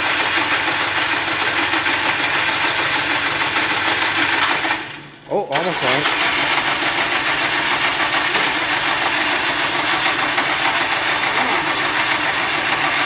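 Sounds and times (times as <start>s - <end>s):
engine cranking without starting: 0.0s - 13.0s.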